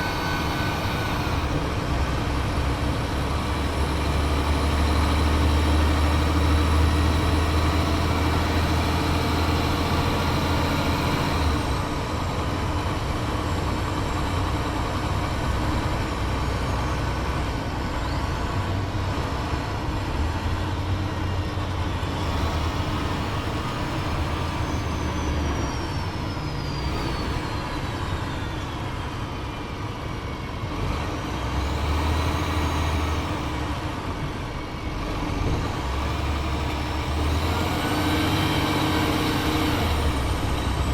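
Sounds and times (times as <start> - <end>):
bus diesel engine hum: 0.0 - 40.9.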